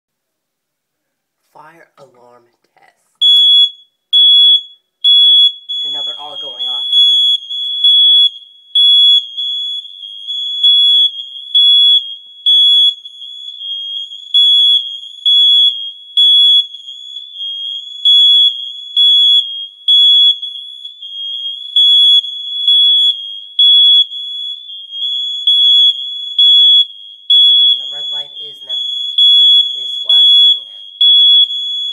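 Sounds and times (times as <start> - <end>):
smoke alarms sounding: 3.2 - 31.9.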